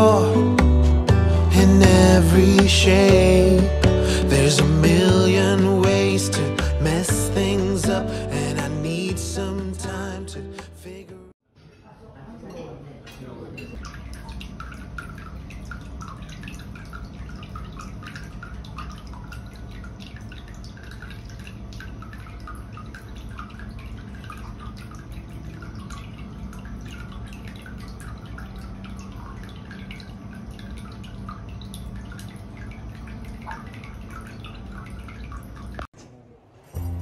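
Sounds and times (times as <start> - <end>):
water trickling and dripping: 0.0 - 10.7, 12.4 - 35.9.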